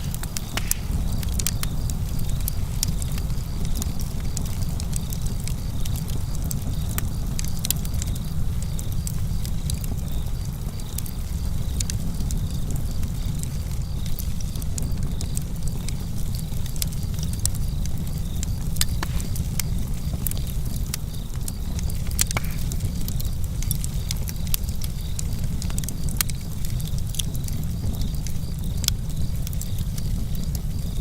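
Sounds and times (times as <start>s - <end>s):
campfire crackling and popping: 0.0s - 31.0s
crickets chirping: 0.0s - 31.0s.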